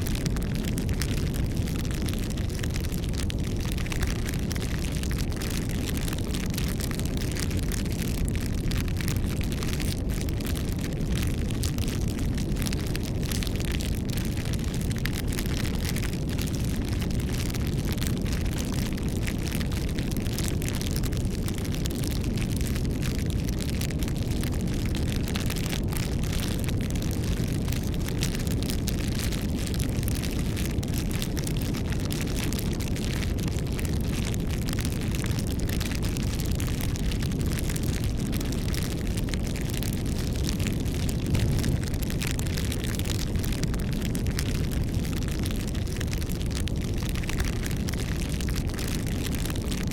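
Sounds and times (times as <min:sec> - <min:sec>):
campfire flames rushing: 0:00.0 - 0:49.9
wood crackling and popping: 0:00.0 - 0:49.9.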